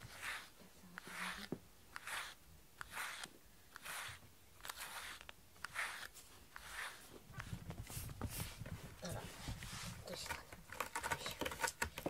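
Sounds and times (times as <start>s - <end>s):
brush stroking cat fur: 0.0s - 11.8s.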